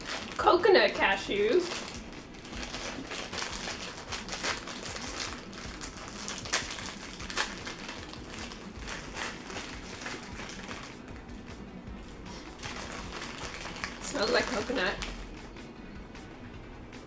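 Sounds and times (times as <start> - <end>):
plastic snack bag crinkling: 0.0 - 11.0, 12.3 - 15.4.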